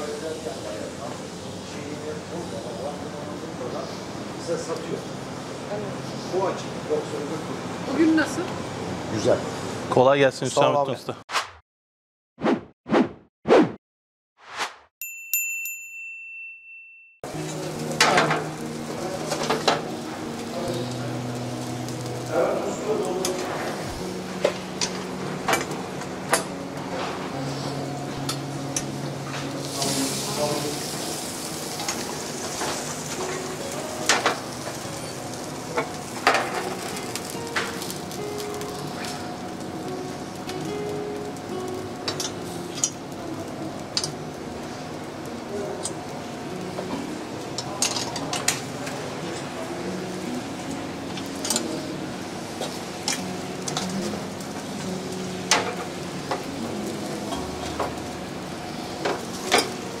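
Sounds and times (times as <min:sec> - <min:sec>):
meat sizzling in oven: 0:00.0 - 0:09.8, 0:17.2 - 1:00.0.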